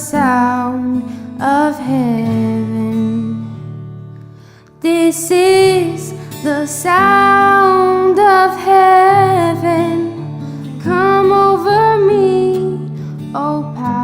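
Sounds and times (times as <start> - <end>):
woman singing: 0.0 - 3.8, 4.7 - 14.0
strummed acoustic guitar: 0.0 - 14.0.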